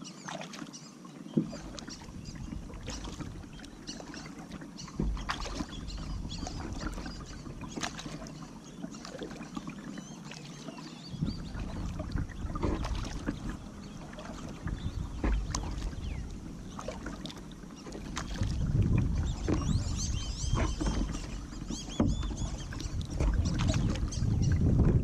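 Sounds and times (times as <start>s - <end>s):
paddle splashing and knocking hull: 0.0s - 25.0s.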